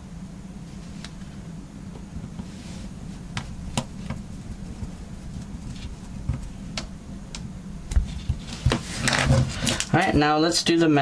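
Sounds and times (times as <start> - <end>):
steady low rumble: 0.0 - 10.5.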